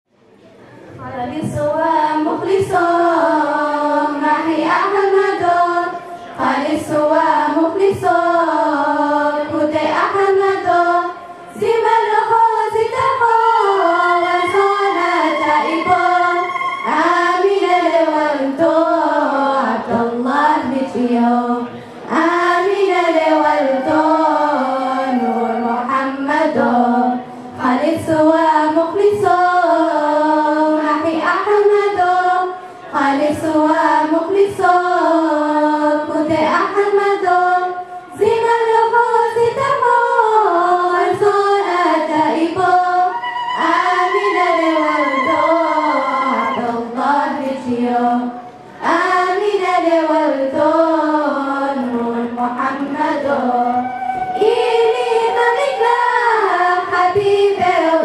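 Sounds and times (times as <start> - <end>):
girls' choir singing: 1.3 - 58.0.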